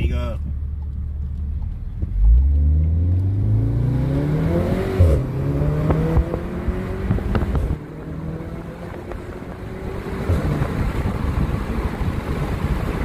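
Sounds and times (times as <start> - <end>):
exhaust cracks: 0.0 - 13.0
car engine accelerating hard: 0.7 - 13.0.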